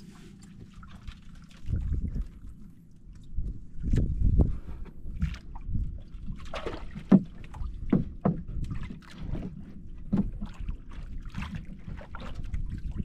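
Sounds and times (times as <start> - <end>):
hollow water slaps: 0.0 - 13.0
low wash of water: 0.0 - 13.0
waves lapping against boat hull: 0.0 - 13.0.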